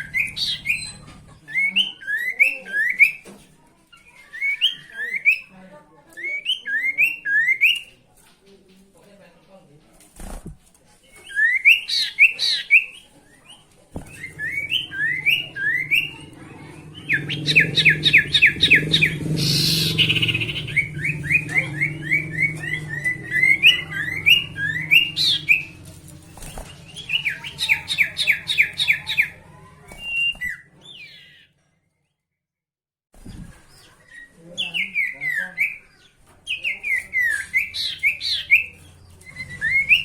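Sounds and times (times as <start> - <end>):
songbird whistling song: 0.0 - 3.3, 4.0 - 5.5, 6.1 - 8.0, 11.1 - 25.8, 26.5 - 31.6, 33.4 - 40.0.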